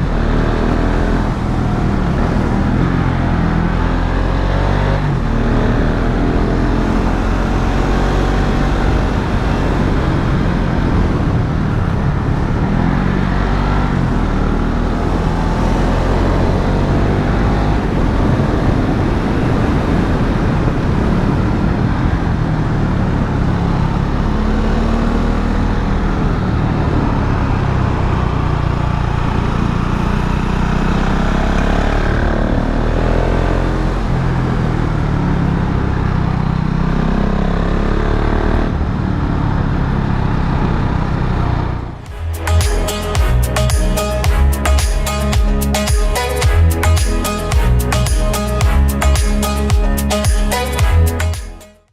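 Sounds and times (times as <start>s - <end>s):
motorcycle engine revving: 0.0s - 51.4s
wind and road noise: 0.0s - 51.9s.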